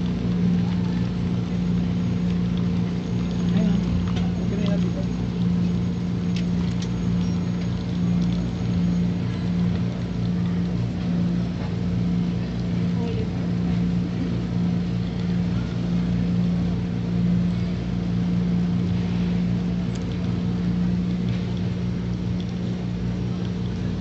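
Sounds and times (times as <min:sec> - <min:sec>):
coffee machine humming: 0:00.0 - 0:24.0.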